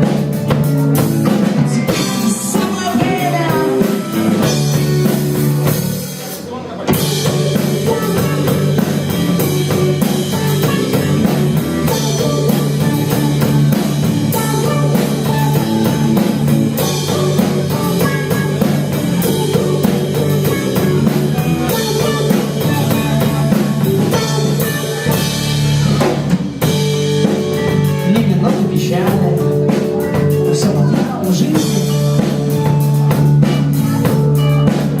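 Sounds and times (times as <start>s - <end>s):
bass line: 0.0s - 35.0s
drum kit: 0.0s - 35.0s
electric guitars: 0.0s - 35.0s.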